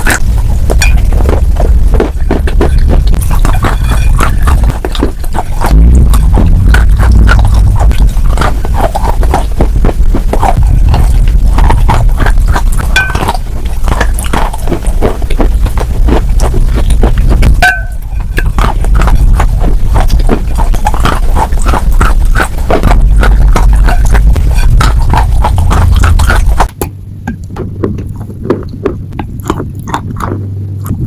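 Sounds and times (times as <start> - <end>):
crunchy food being chewed: 0.0 - 31.0.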